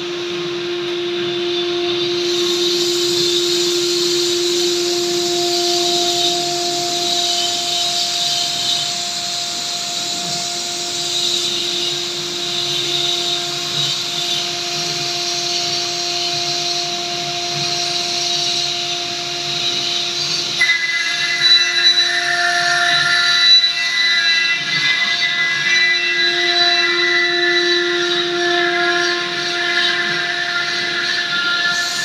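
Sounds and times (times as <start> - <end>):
higher-pitched whine: 0.0 - 32.0
router spindle whine: 0.0 - 32.0.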